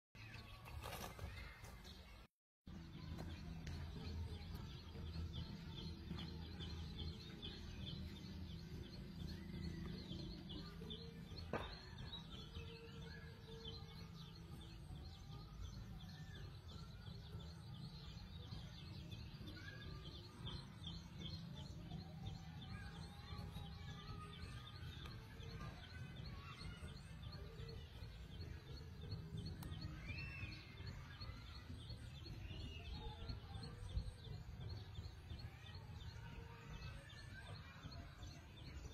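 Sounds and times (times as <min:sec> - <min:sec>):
small birds chirping: 0:00.2 - 0:38.9.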